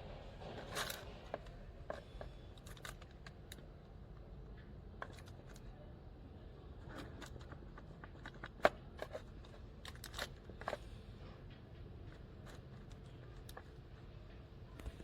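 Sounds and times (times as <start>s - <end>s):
small objects clicking and rustling: 0.0s - 5.9s, 6.6s - 15.0s.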